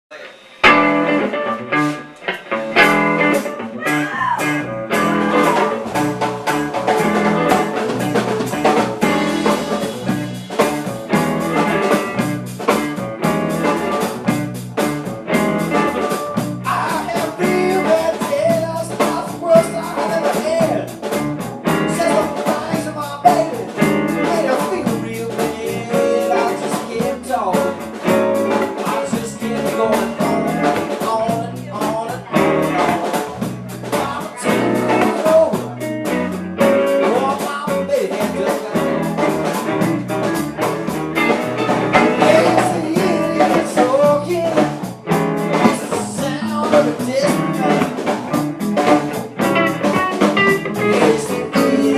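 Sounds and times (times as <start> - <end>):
blues guitar playing: 0.1 - 51.9
person singing: 3.3 - 10.9, 16.0 - 21.0, 21.6 - 51.9.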